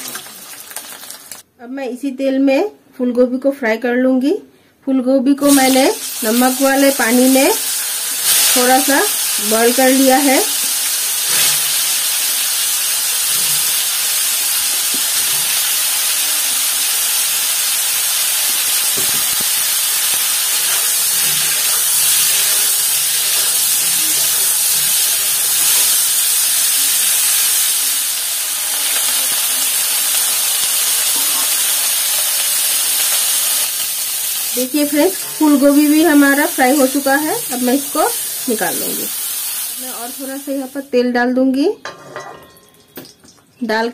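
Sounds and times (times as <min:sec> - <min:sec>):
vegetables sizzling in oil: 0:00.0 - 0:01.4, 0:05.4 - 0:41.2.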